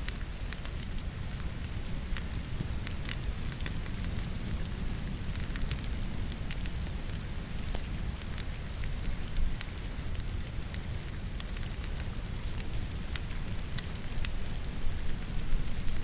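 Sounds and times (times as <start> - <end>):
logs crackling in fireplace: 0.0 - 16.0
rain patter: 0.0 - 16.0.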